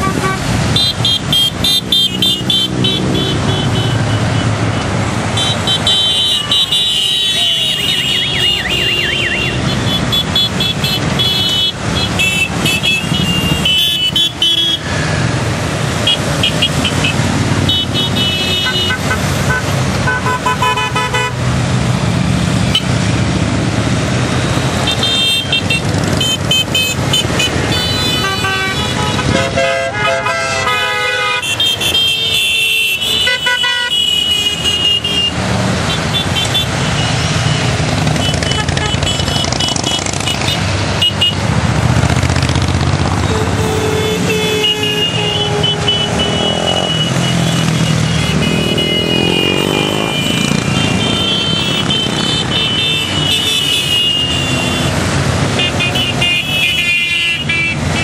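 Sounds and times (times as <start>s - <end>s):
motorcycle horns beeping: 0.0s - 15.1s, 15.9s - 21.4s, 24.6s - 41.6s, 43.1s - 58.0s
motorcycle engines passing: 0.0s - 58.0s.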